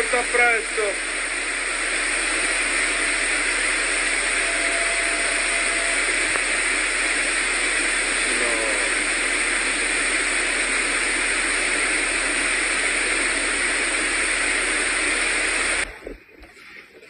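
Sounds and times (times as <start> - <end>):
floodwater rushing roar: 0.0 - 15.8.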